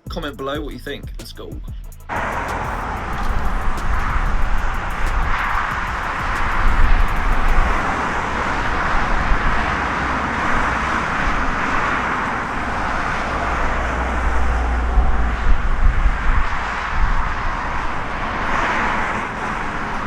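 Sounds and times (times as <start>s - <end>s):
jet engines roaring: 2.1s - 20.0s.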